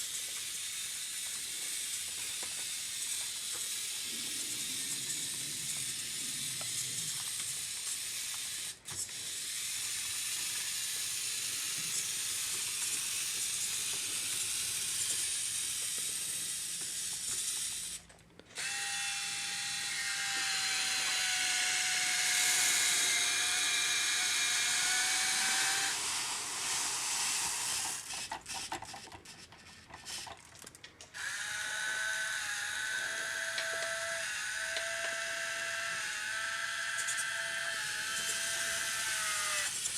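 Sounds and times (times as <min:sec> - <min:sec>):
toy truck motor whirring: 0:00.0 - 0:39.9.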